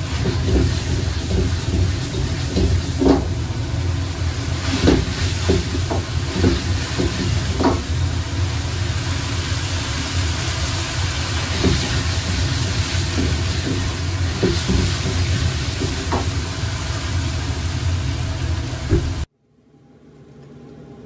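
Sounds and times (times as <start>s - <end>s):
gas burner rumble and hiss: 0.0s - 19.3s
sauce sizzling and bubbling: 0.0s - 19.3s.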